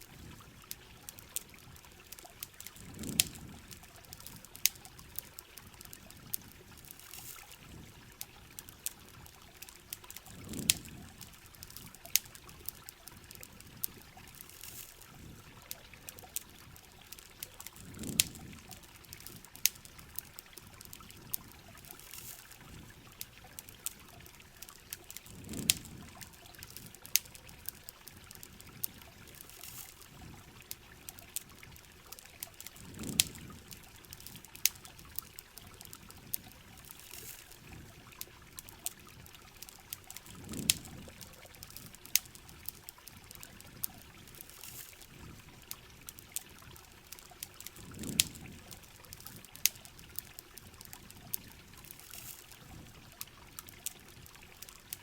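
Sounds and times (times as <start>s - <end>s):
steady rain: 0.0s - 55.0s
trickling water: 0.0s - 55.0s
wood fire crackling and popping: 0.0s - 55.0s.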